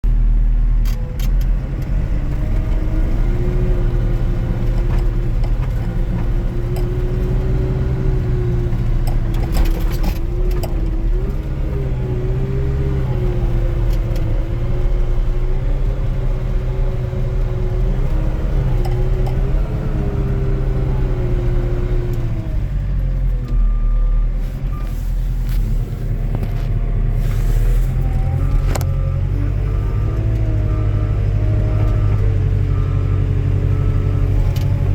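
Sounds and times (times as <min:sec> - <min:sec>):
skid steer engine running: 0:00.1 - 0:34.9.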